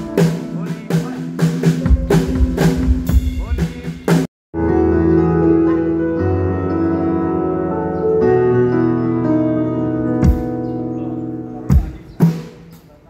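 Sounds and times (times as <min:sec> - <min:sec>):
electric keyboard sustained chords: 0:00.0 - 0:03.2, 0:04.6 - 0:13.0.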